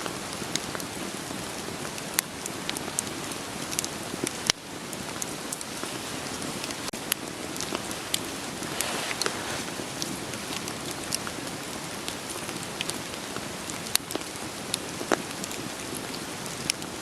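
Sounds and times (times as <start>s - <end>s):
steady rain hiss: 0.0s - 17.0s
wood fire crackling: 0.0s - 17.0s.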